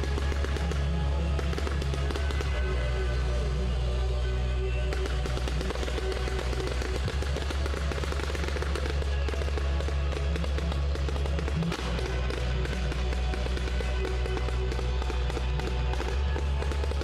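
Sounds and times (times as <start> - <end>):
fireworks crackling: 0.0 - 17.0
loud music with heavy bass: 0.0 - 17.0.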